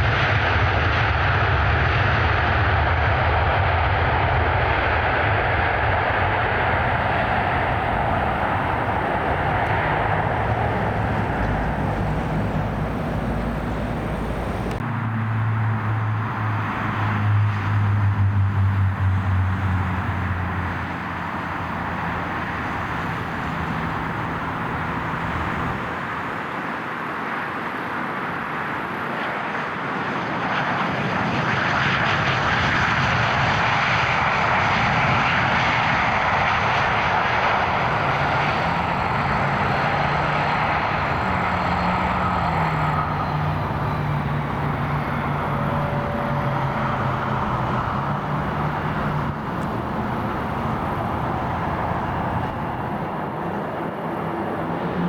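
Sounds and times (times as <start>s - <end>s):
jet engines rushing: 0.0s - 55.0s
low turbofan hum: 0.0s - 55.0s.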